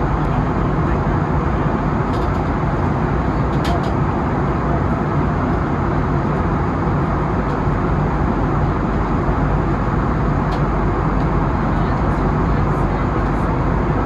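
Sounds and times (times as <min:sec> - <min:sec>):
airliner cabin engine and airflow noise: 0:00.0 - 0:14.0.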